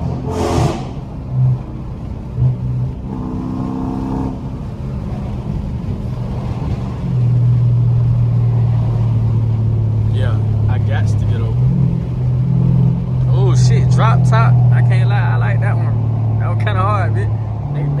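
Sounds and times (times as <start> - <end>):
car exhaust engine drone: 0.0 - 18.0.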